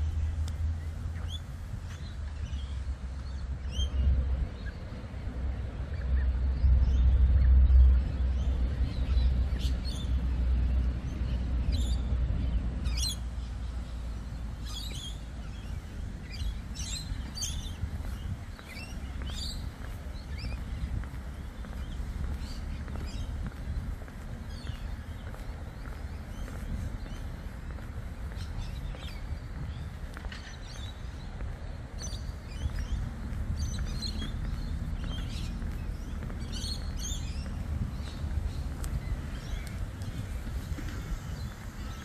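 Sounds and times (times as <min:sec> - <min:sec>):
birds chirping: 0:00.0 - 0:42.0
wind rumble on microphone: 0:00.0 - 0:42.0.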